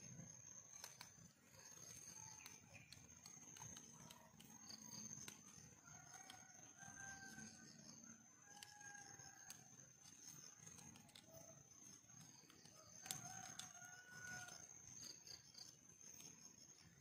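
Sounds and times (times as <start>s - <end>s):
high insect whine: 0.0s - 17.0s
clicks and rustles of hands: 0.7s - 7.6s, 8.5s - 16.4s.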